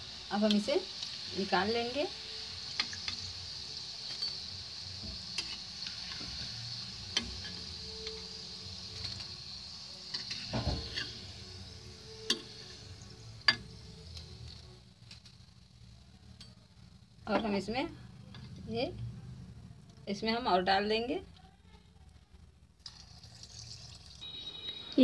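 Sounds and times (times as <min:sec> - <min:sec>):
food deep-frying in hot oil: 0:00.0 - 0:21.3, 0:22.7 - 0:25.0.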